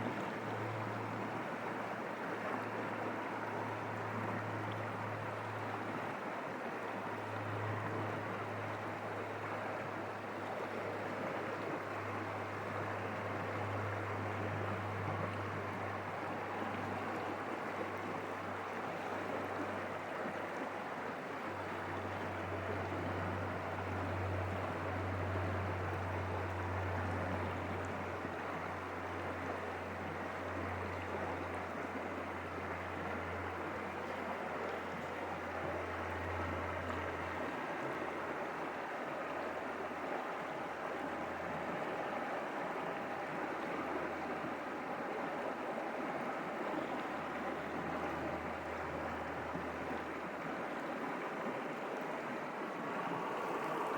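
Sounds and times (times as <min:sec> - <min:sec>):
stream running over rocks: 0:00.0 - 0:53.9.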